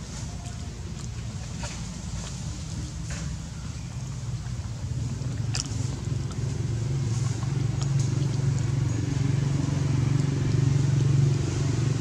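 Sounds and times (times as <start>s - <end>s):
low pulsing engine drone: 0.0s - 12.0s.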